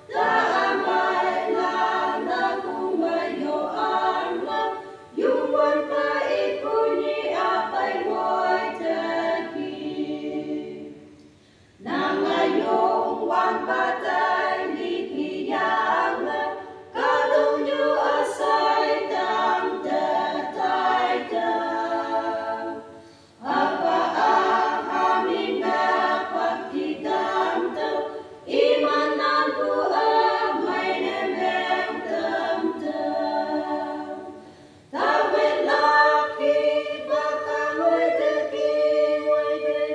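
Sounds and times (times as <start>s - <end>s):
women singing a hymn: 0.0s - 39.9s.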